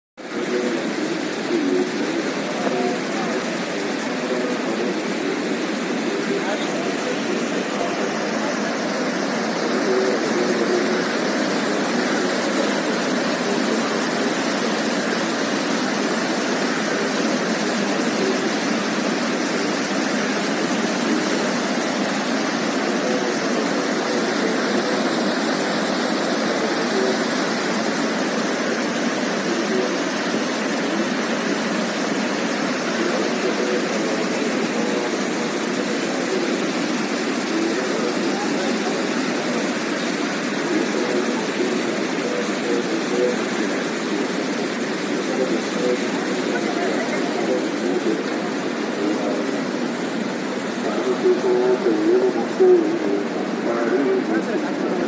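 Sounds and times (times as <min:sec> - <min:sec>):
river rushing over boulders: 0:00.2 - 0:55.0.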